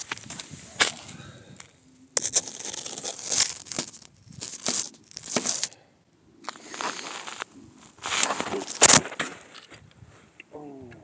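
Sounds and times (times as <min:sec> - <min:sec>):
crunching of crusted snow and ice: 0:00.0 - 0:05.8, 0:06.4 - 0:09.8.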